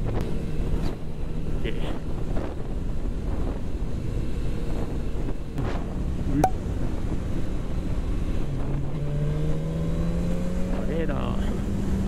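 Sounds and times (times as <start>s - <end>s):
wind rushing over microphone: 0.0s - 10.9s.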